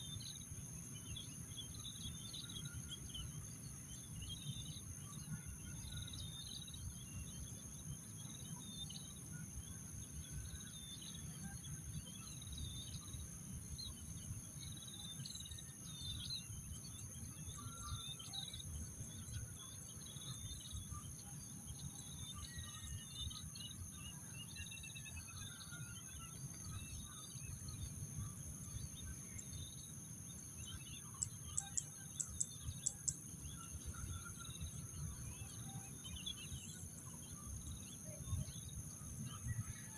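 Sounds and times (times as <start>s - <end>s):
insects trilling: 0.1s - 39.9s.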